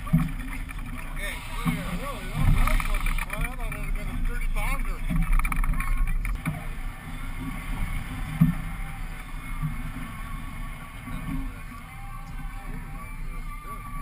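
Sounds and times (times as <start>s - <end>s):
boat engine rumble: 0.0s - 14.0s.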